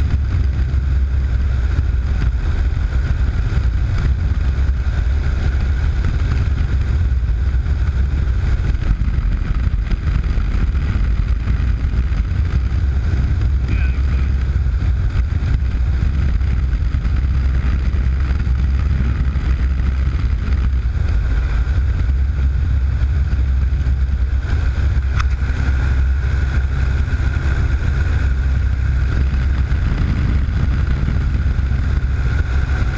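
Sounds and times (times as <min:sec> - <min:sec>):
light airplane engine droning: 0:00.0 - 0:32.9.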